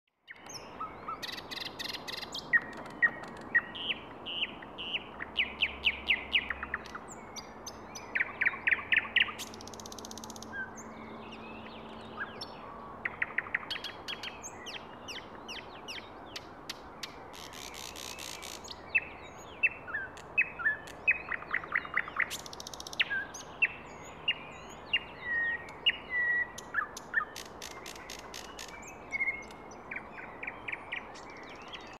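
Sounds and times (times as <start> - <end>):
bird singing: 0.1 - 32.0.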